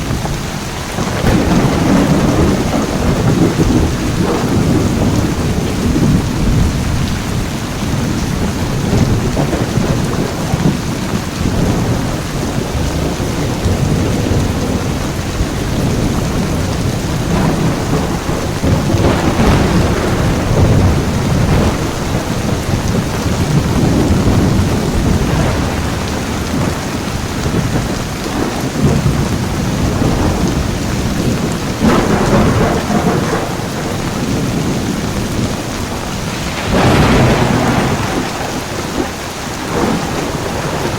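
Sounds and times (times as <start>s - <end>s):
heavy rain pouring: 0.0s - 40.9s
low thunder rumbling: 0.0s - 40.9s.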